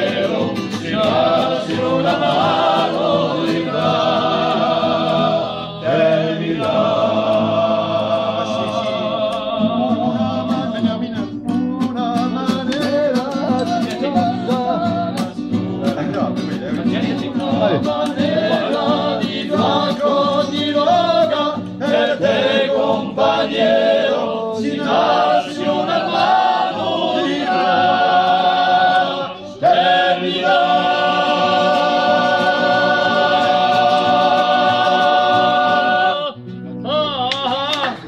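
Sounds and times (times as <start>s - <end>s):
men singing in close harmony: 0.0s - 38.0s.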